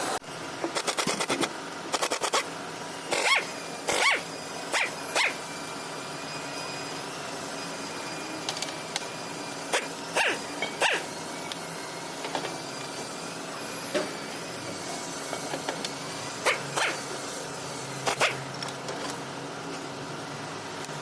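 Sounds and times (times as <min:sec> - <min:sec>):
engine running with high whine: 0:00.0 - 0:21.0.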